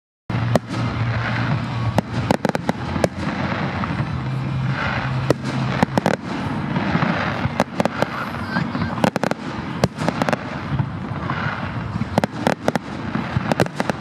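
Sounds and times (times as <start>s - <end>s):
continuous rumble: 0.3s - 14.0s.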